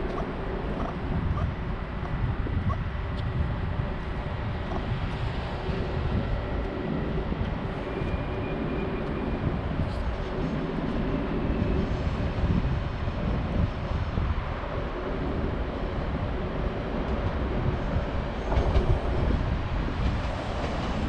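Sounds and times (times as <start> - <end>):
train rumbling on tracks: 0.0 - 21.0.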